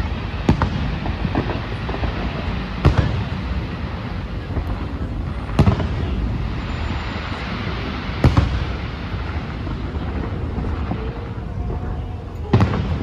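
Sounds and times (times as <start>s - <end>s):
firework bangs: 0.0s - 11.8s, 12.5s - 13.0s
low rumble: 0.0s - 13.0s.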